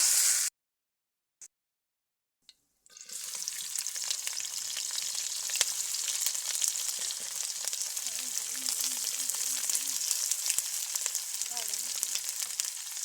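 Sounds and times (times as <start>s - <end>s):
food sizzling in hot oil: 0.0s - 0.5s, 2.9s - 13.0s.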